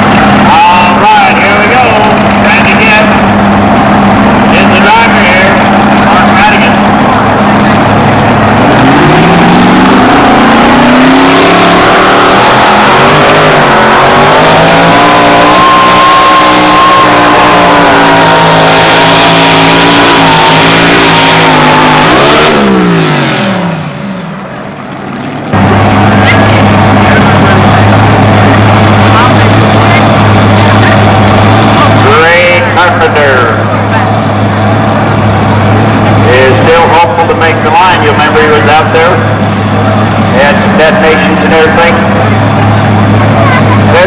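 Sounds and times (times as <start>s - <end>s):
truck engine at full throttle: 0.0s - 44.0s.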